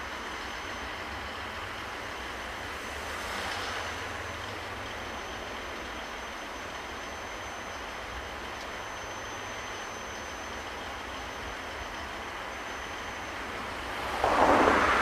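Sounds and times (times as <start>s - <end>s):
train rushing: 0.0s - 15.0s.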